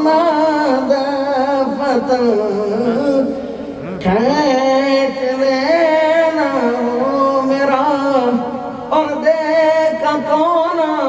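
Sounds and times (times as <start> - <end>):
man singing long held notes: 0.0 - 11.0.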